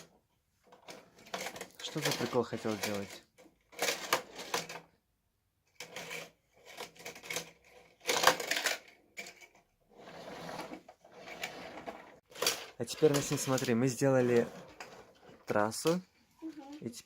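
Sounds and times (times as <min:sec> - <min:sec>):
plastic toy pieces clattering: 0:00.0 - 0:04.9, 0:05.7 - 0:09.8, 0:10.7 - 0:17.0.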